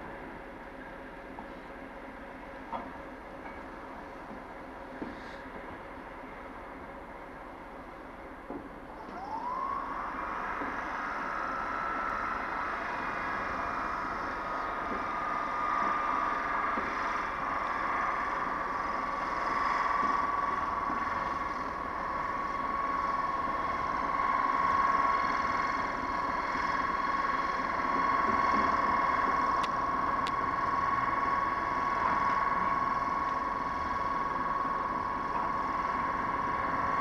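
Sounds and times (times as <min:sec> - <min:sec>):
locomotive high steady whine: 0:00.0 - 0:37.0
locomotive low rumble: 0:00.0 - 0:37.0.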